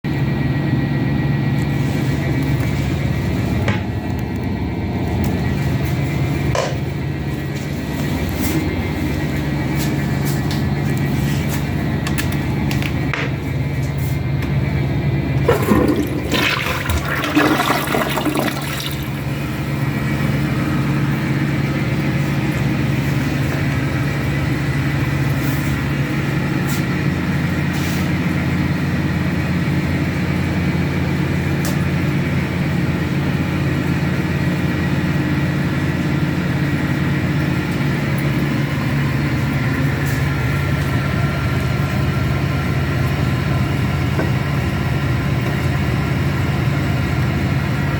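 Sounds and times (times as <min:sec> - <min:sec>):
low mechanical hum: 0:00.1 - 0:47.9
toilet flushing: 0:01.4 - 0:47.9.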